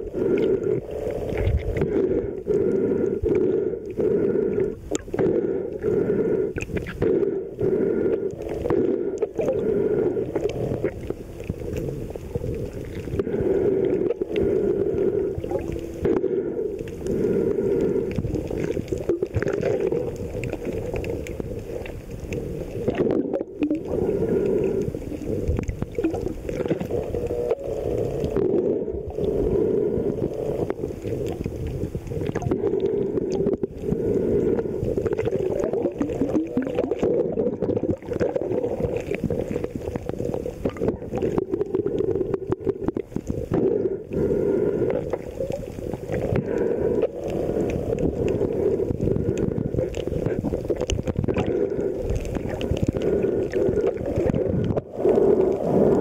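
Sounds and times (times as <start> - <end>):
low underwater drone: 0.0 - 56.0
small underwater clicks and gurgles: 0.0 - 56.0.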